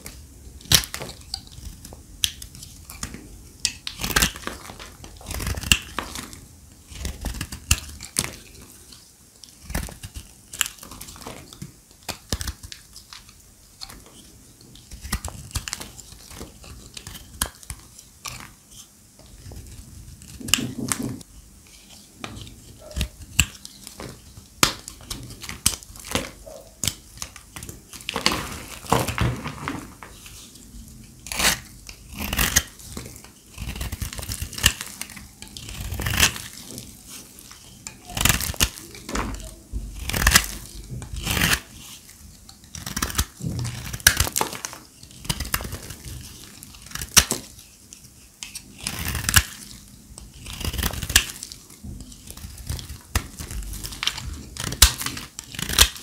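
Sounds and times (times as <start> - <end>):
brittle soap crunching being cut: 0.0 - 18.6, 19.2 - 30.6, 31.2 - 56.0.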